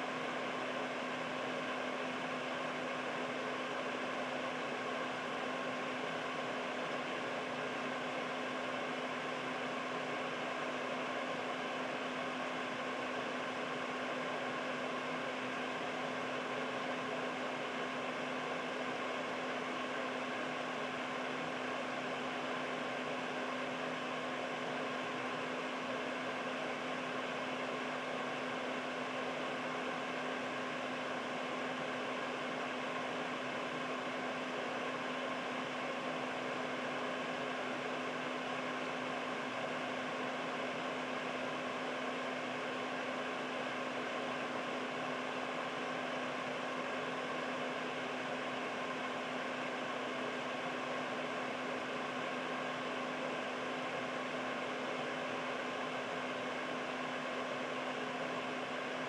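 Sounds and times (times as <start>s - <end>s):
air purifier fan running: 0.0s - 59.0s.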